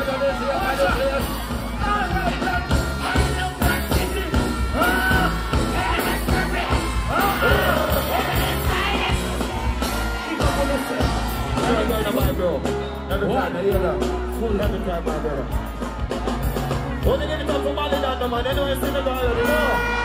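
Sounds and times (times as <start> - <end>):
heavy bass beat: 0.0 - 20.0.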